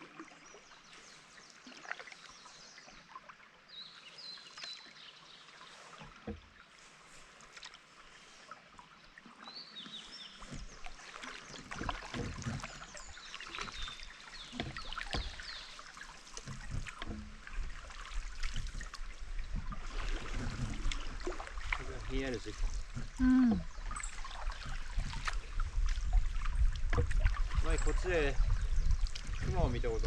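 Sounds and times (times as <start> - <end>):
paddle strokes in water: 0.0 - 30.0.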